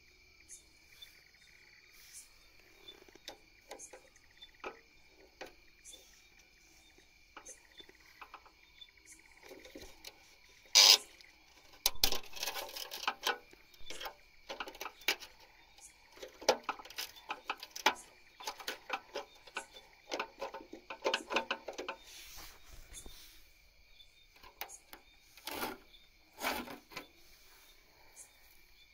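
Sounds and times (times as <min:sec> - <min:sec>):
crickets chirring: 0:00.0 - 0:28.9.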